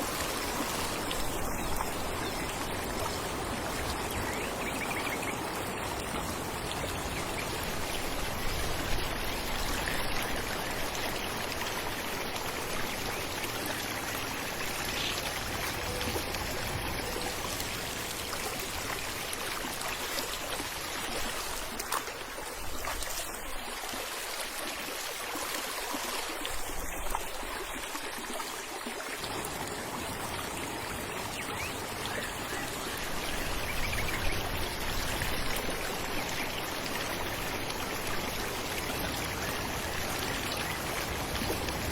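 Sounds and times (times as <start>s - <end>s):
water running and splashing: 0.0s - 41.9s.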